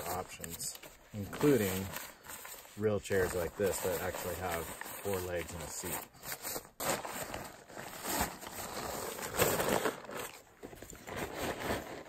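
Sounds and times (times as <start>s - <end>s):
fabric rustling and crinkling: 0.0s - 12.0s.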